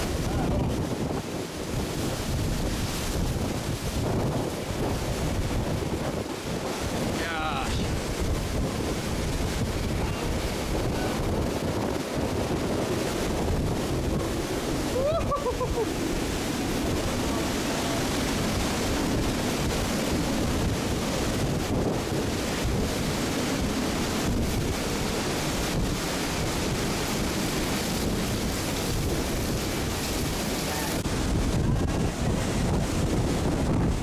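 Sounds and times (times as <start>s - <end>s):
hurricane winds: 0.0s - 34.0s
wind buffeting microphone: 0.0s - 34.0s
wind-driven rain: 0.0s - 34.0s.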